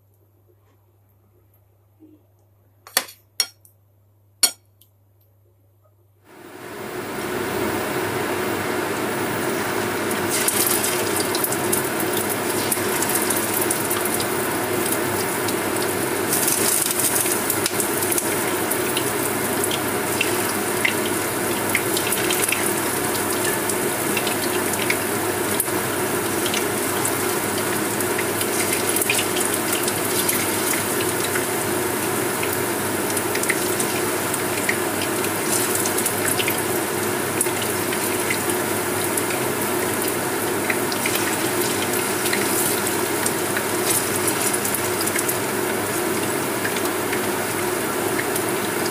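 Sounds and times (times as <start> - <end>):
steady hum: 6.3 - 48.9
fish deep-frying in hot oil: 6.4 - 48.9.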